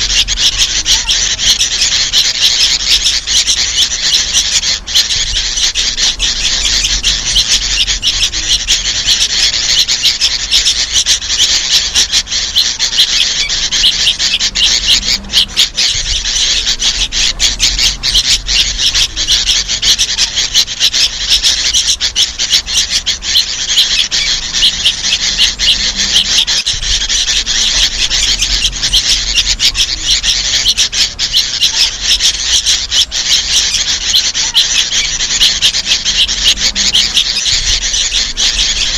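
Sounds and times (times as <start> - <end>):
bulbuls calling: 0.0 - 38.9
young birds begging calls: 0.0 - 38.9.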